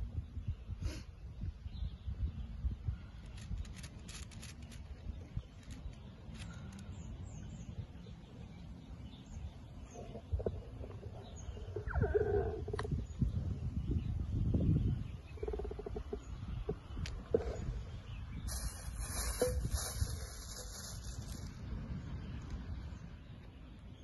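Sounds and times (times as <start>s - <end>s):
wind buffeting microphone: 0.0s - 24.0s
faint bird chirps: 0.2s - 21.5s.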